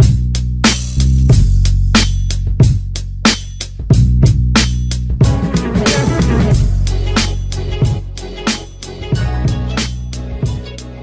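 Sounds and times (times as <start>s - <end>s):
held bass line: 0.0s - 11.0s
steady drum beat: 0.0s - 11.0s.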